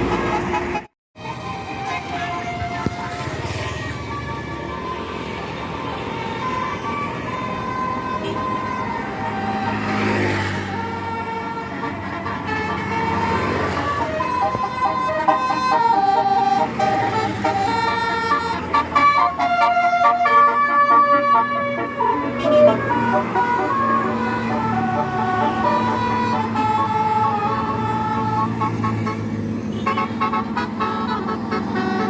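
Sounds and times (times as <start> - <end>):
bus engine rumble: 0.0 - 32.0
multi-tone bus horns: 0.0 - 32.0.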